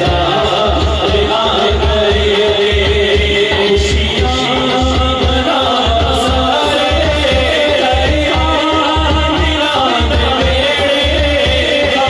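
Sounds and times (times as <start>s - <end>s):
man singing through microphone: 0.0s - 12.0s.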